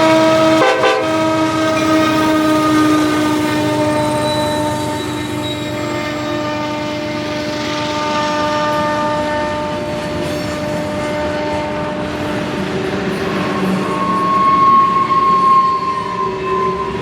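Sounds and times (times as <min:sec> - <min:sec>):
freight train passing: 0:00.0 - 0:17.0
locomotive tonal hum: 0:00.0 - 0:17.0.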